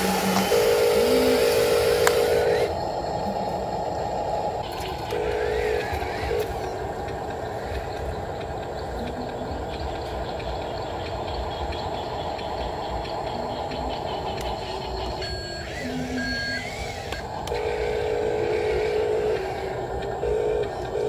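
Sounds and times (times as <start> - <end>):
small electric motors whirring: 0.0 - 10.2, 12.5 - 21.0.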